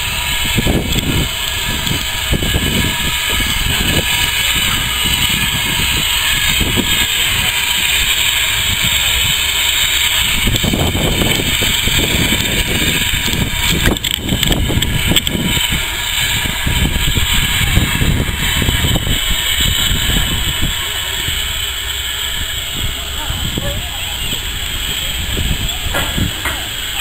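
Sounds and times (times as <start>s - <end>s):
locomotive low rumble: 0.0s - 27.0s
steam hiss: 0.0s - 27.0s.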